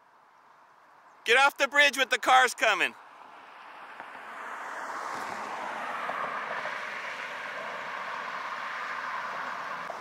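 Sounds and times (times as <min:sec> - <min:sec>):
traffic road noise hiss: 0:00.0 - 0:10.0.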